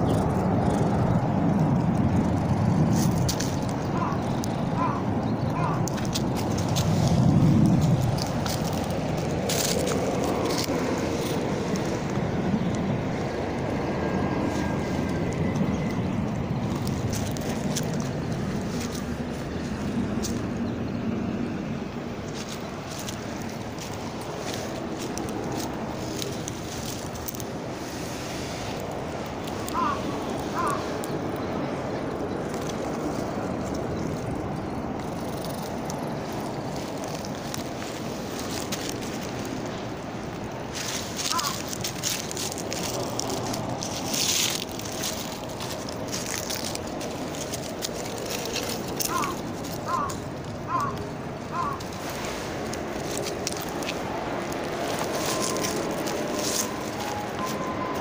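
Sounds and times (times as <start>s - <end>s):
fur rustling against microphone: 5.6s - 20.5s, 22.1s - 33.6s, 35.6s - 58.0s.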